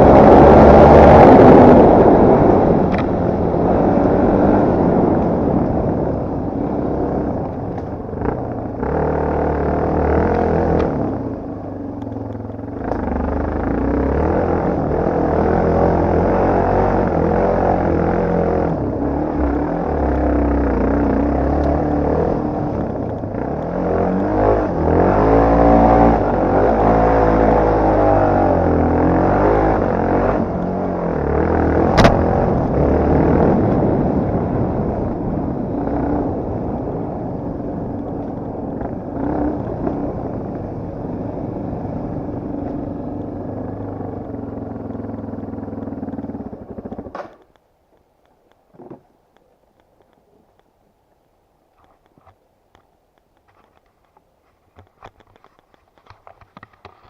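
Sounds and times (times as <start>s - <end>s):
motorcycle engine running: 0.0s - 47.2s.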